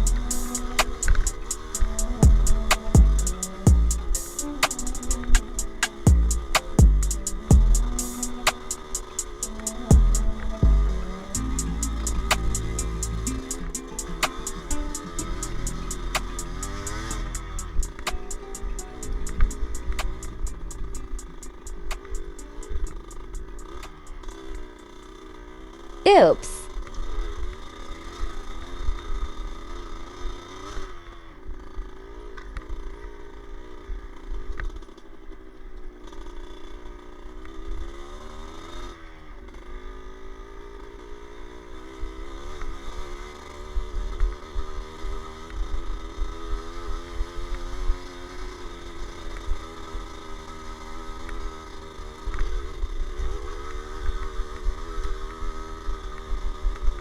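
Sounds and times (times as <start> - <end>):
dirt bike engine revving: 0.0 - 34.8, 36.0 - 57.0.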